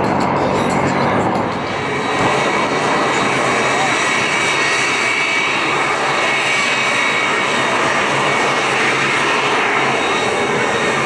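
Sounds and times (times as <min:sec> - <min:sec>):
aircraft engine rushing: 0:00.0 - 0:11.0.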